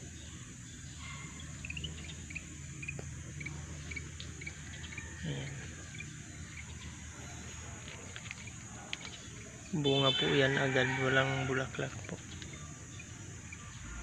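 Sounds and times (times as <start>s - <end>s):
insects droning: 0.0s - 14.0s
low steady hum: 0.0s - 14.0s.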